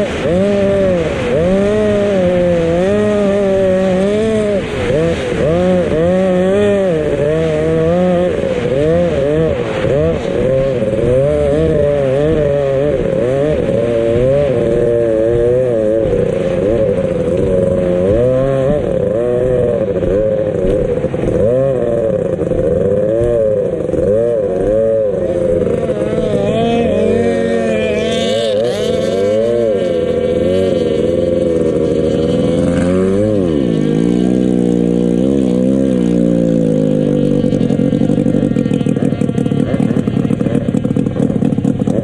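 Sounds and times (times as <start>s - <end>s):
boat engine revving: 0.0s - 42.0s.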